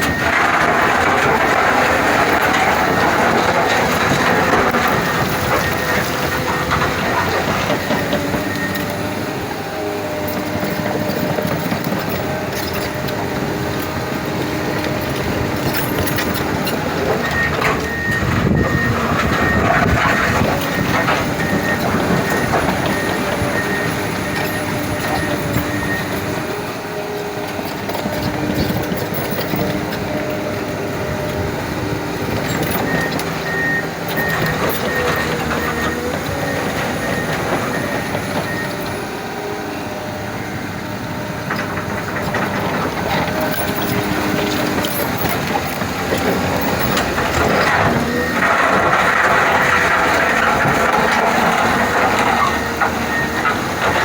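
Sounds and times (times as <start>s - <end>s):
steel tracks clanking: 0.0s - 39.3s, 39.9s - 54.0s
diesel engine under load: 0.0s - 54.0s.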